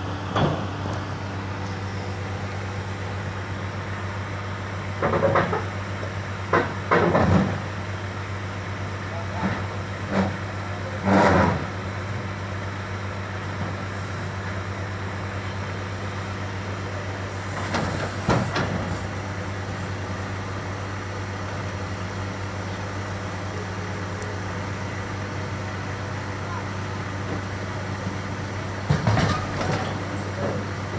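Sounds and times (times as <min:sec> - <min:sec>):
heavy diesel engine running: 0:00.0 - 0:30.9.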